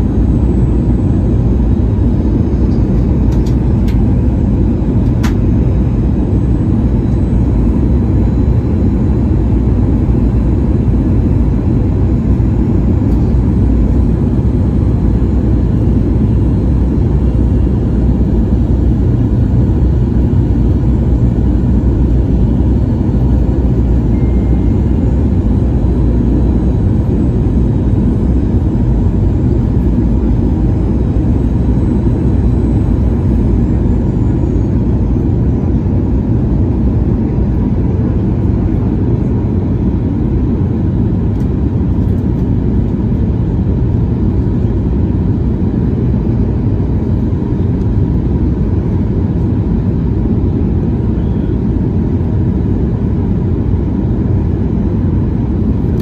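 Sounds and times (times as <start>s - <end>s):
faint high whine: 0.0s - 42.2s, 43.4s - 52.9s
airplane cabin engine rumble: 0.0s - 56.0s.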